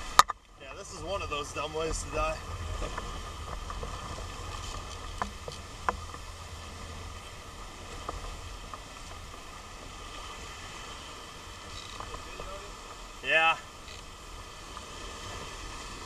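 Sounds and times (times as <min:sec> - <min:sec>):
muffled underwater surf rumble: 0:00.0 - 0:16.0.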